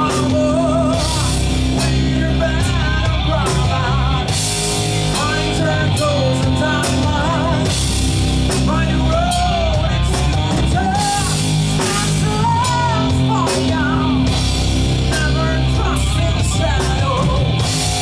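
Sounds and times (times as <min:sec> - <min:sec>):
rock band playing live: 0:00.0 - 0:18.0.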